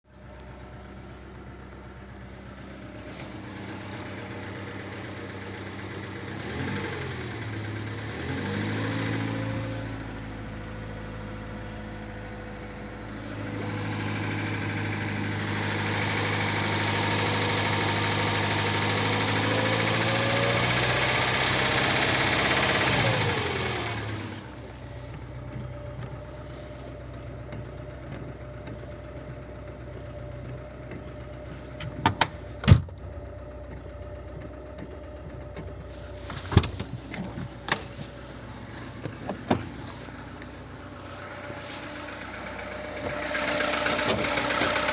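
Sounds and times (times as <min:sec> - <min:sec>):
car engine revving and idling: 0:00.1 - 0:44.9.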